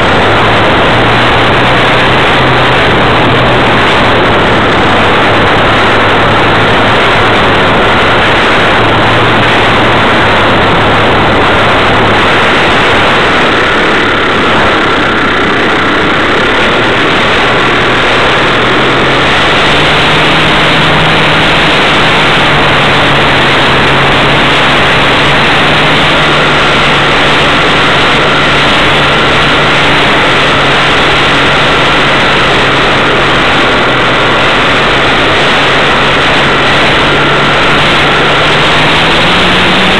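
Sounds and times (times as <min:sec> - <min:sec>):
aircraft engine drone: 0:00.0 - 0:39.9
rushing air: 0:00.0 - 0:39.9.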